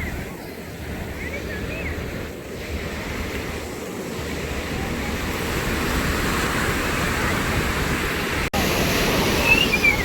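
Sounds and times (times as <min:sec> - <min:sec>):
ocean surf washing in: 0:00.0 - 0:10.0
wind rumbling on microphone: 0:00.0 - 0:10.0.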